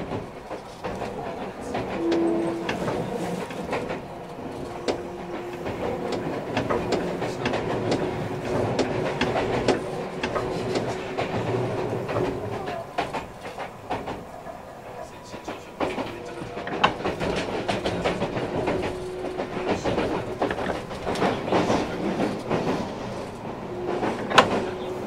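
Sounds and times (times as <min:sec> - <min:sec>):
steady train rumble: 0:00.0 - 0:25.0
wheels clicking over rail joints: 0:00.0 - 0:25.0.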